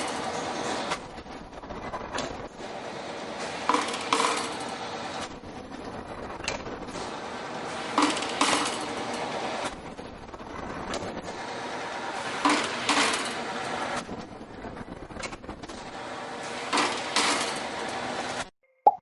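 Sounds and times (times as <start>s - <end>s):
machine mechanical clatter: 0.0s - 18.5s.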